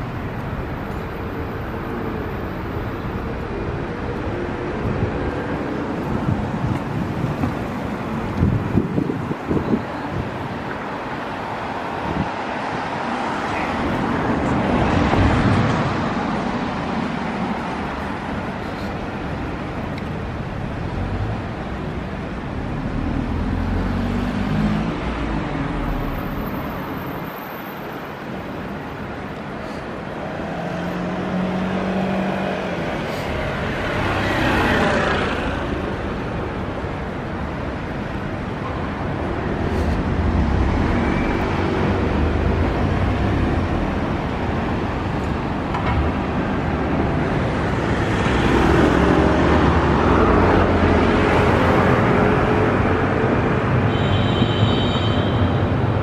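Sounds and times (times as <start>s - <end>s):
cars driving by: 0.0s - 56.0s.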